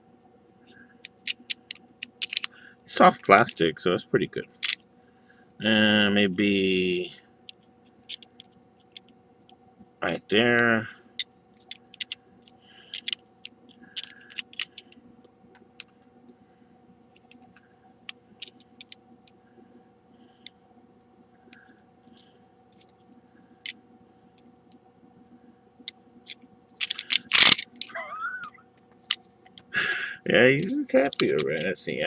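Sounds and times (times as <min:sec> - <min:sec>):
faint hum: 0:00.0 - 0:32.0.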